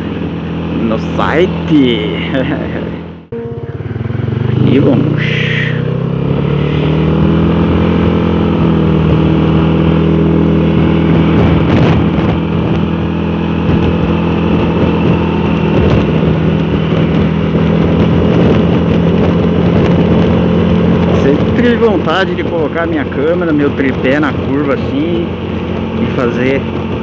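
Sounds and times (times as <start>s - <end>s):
scooter engine running: 0.0s - 27.0s.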